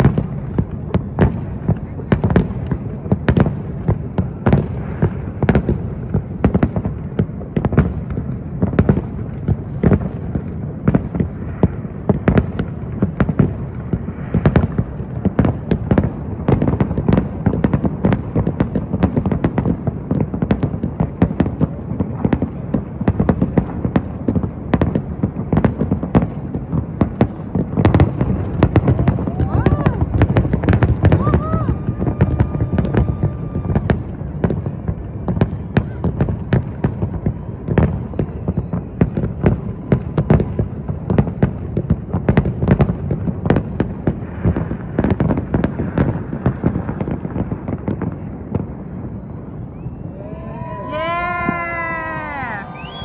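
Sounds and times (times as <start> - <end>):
fireworks booms and cracks: 0.0 - 53.0.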